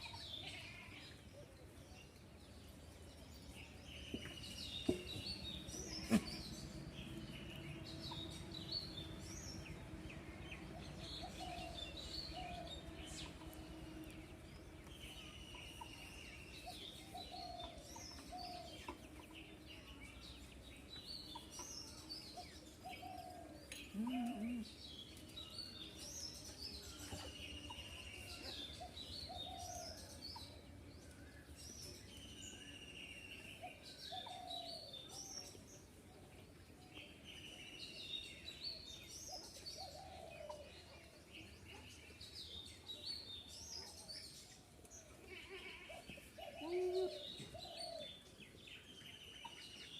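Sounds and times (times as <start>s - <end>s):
birds singing and chirping: 0.0s - 49.9s.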